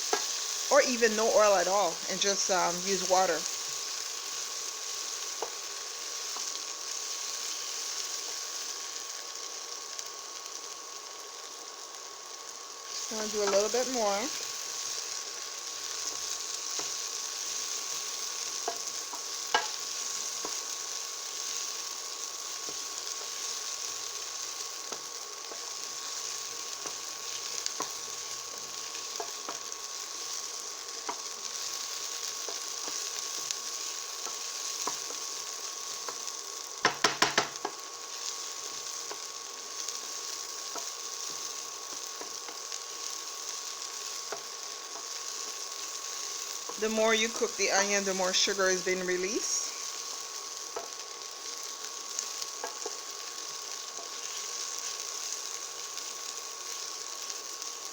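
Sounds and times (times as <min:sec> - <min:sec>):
onions sizzling in oil: 0:00.0 - 0:57.9.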